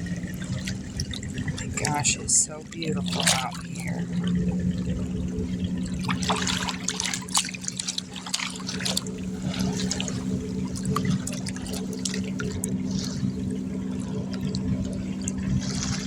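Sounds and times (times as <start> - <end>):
steady low hum: 0.0 - 16.0
water splashing and trickling: 0.0 - 16.0.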